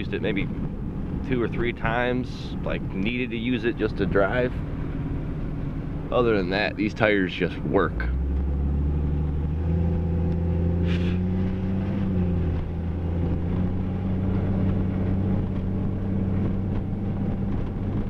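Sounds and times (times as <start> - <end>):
car engine humming from inside cabin: 0.0 - 18.0.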